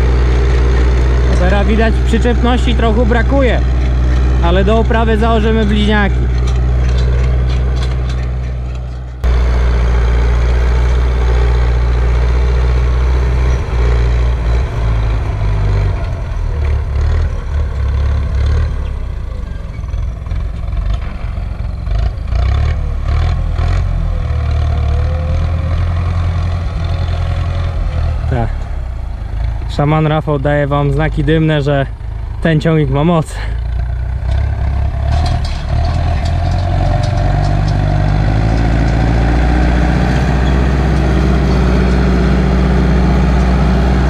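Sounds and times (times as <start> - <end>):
tractor diesel engine under load: 0.0 - 44.0.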